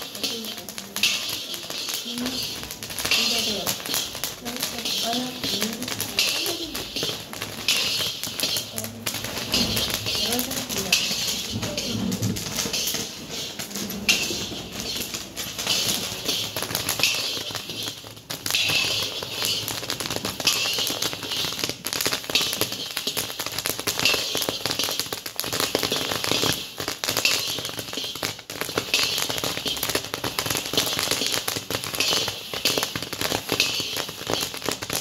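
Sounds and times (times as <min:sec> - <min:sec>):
corn kernels popping in a pot: 0:00.0 - 0:35.0.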